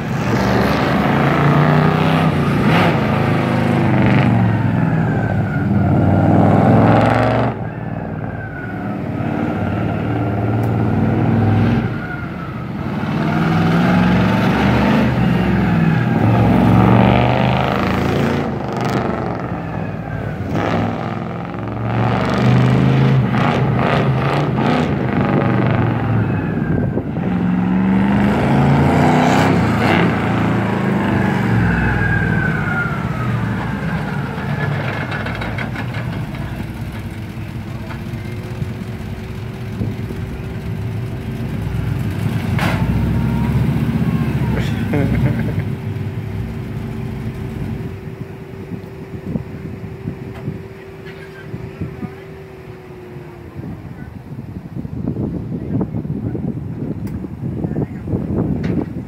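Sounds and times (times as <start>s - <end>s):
truck engine revving: 0.0s - 54.4s.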